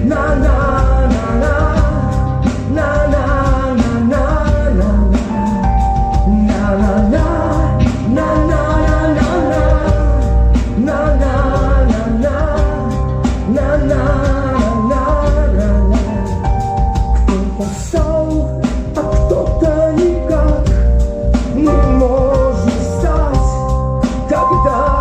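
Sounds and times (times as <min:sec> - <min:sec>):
drums keeping steady beat: 0:00.0 - 0:25.0
live rock band playing: 0:00.0 - 0:25.0.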